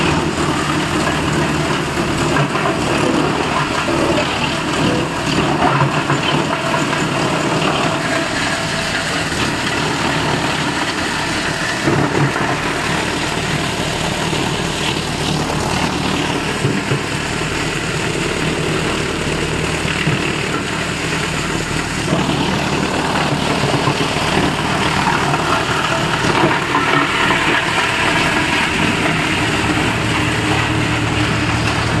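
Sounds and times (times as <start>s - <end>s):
wood chipper chipping wood: 0.0s - 32.0s.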